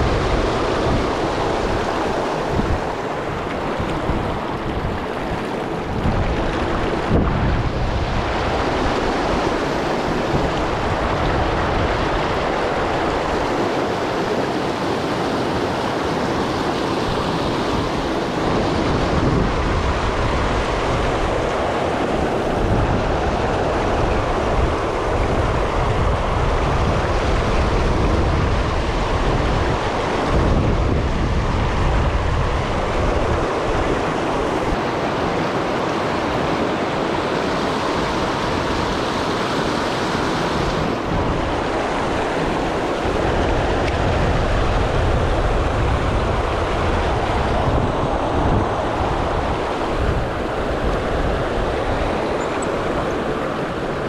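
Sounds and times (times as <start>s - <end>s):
river rapids rushing: 0.0s - 54.0s
wind on microphone: 0.0s - 54.0s.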